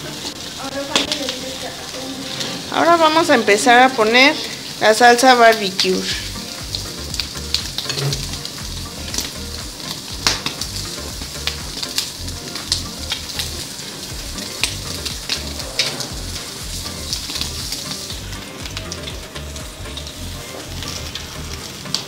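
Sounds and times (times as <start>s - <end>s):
sharp crackles and pops: 0.0s - 3.6s, 4.4s - 22.0s
ribs sizzling on a grill: 0.0s - 22.0s.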